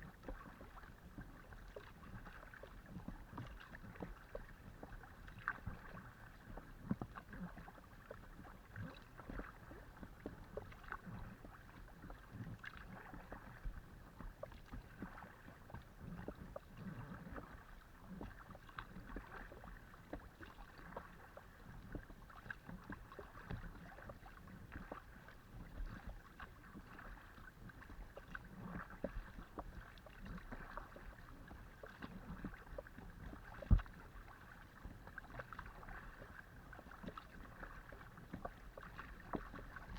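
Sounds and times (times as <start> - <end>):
paddle splashing water: 0.0 - 39.9.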